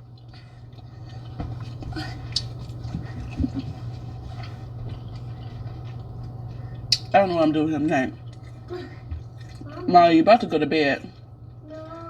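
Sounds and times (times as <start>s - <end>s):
seafood being handled and eaten: 0.0s - 12.0s
steady low hum: 0.0s - 12.0s.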